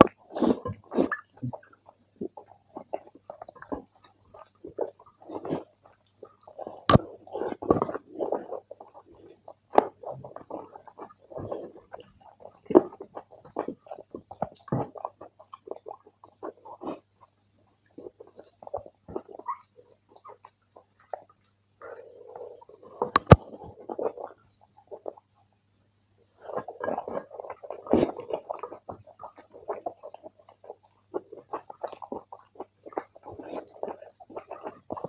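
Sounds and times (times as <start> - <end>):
wet chewing and lip smacks: 0.0 - 25.6, 26.3 - 35.0.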